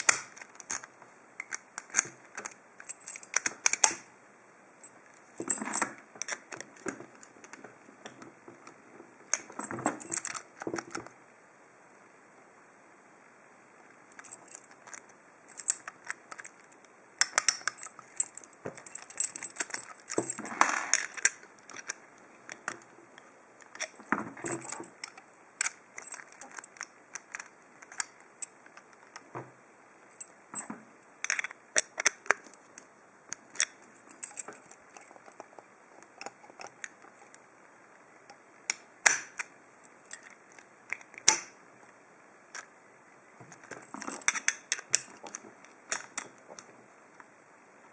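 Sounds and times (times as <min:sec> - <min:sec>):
metal padlock parts clicking: 0:00.0 - 0:04.1, 0:04.8 - 0:11.0, 0:14.1 - 0:22.9, 0:23.6 - 0:29.4, 0:30.1 - 0:37.5, 0:38.2 - 0:41.6, 0:43.5 - 0:46.7.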